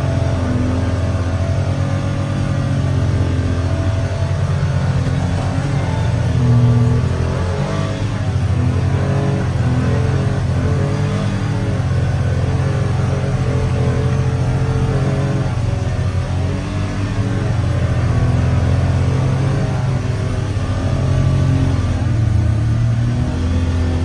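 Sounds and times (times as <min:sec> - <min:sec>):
vehicle engine running under load: 0:00.0 - 0:24.0.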